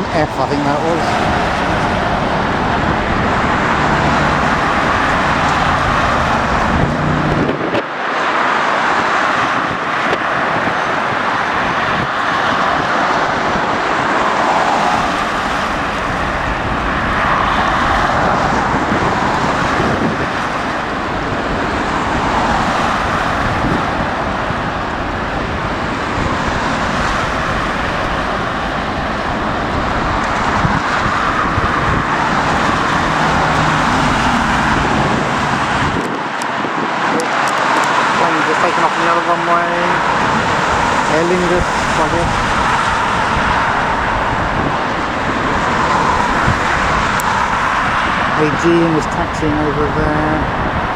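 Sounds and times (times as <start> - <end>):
jet airliner taking off: 0.0 - 50.9.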